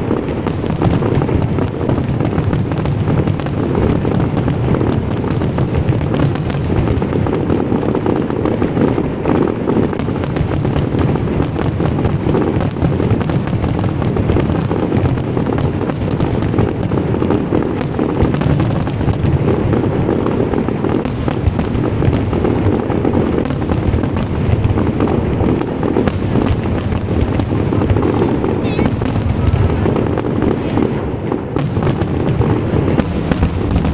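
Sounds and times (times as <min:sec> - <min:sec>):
fireworks crackling and bursting: 0:00.0 - 0:33.9.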